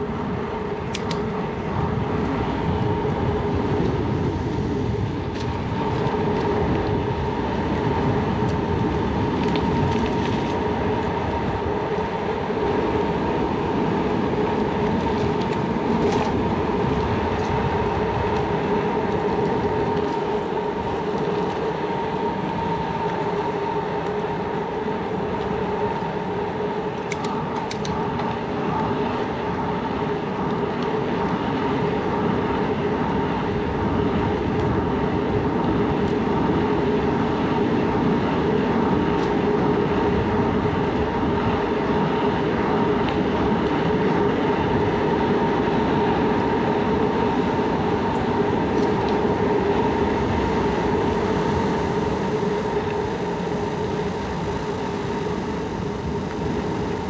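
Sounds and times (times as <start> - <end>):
bicycle tyres rolling on pavement: 0.0 - 57.0.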